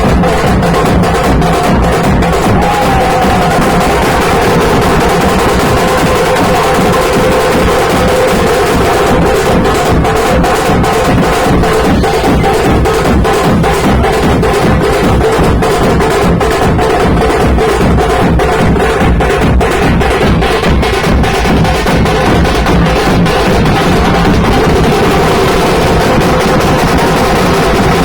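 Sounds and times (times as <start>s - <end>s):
fast drum strokes: 0.0s - 28.0s.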